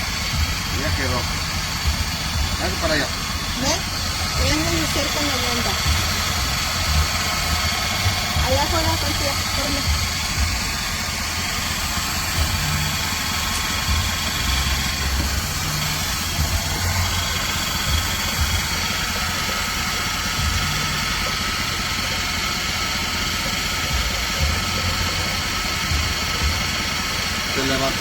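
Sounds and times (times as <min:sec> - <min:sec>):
high whining tones: 0:00.0 - 0:28.0
motor low rumble: 0:00.0 - 0:28.0.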